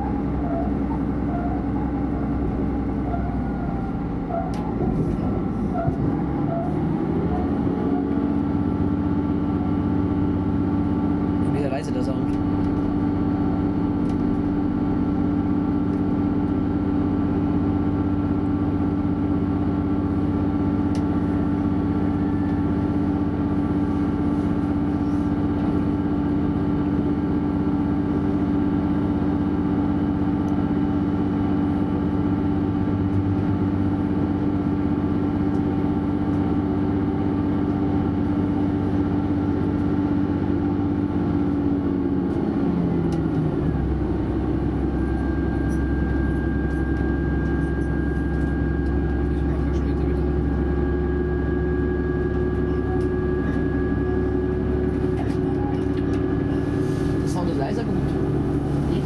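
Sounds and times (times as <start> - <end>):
diesel engine drone: 0.0 - 59.0
wheels rumbling on rails: 0.0 - 59.0.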